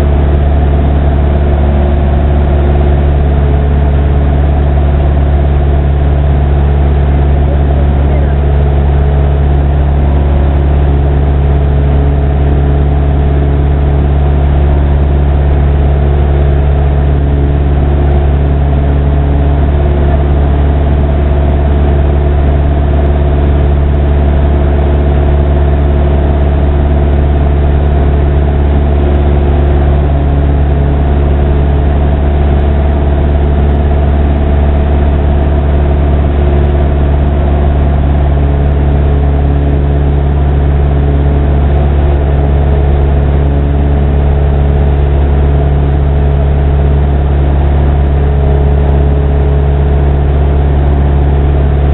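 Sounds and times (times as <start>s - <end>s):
airplane propeller engine drone: 0.0s - 51.9s.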